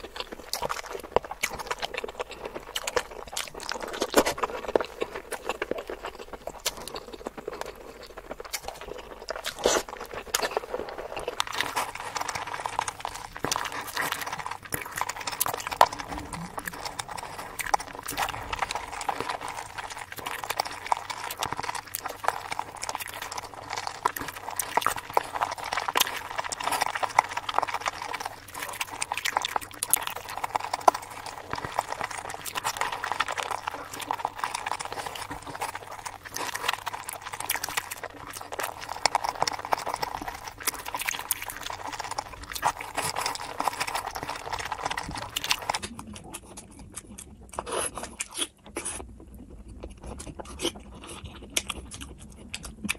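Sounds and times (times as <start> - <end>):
wet chewing and lip smacks: 0.0 - 52.9.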